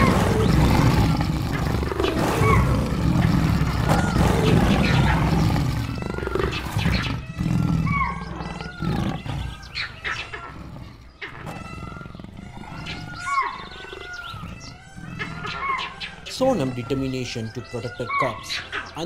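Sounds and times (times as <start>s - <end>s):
tigers growling: 0.0s - 19.0s.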